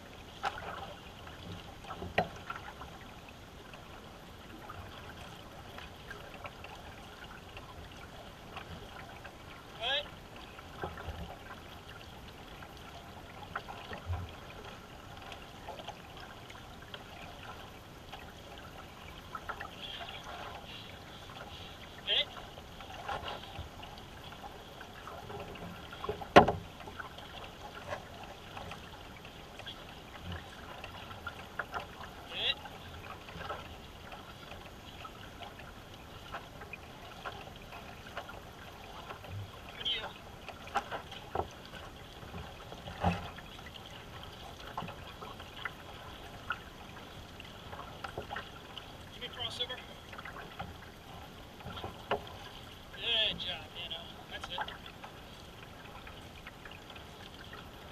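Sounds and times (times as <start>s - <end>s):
canoe hull moving through water: 0.0s - 57.9s
paddle water splashing: 0.0s - 57.9s.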